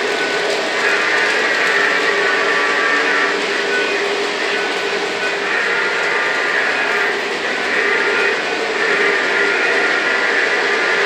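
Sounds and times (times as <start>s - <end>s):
model trains running on track: 0.0s - 11.0s.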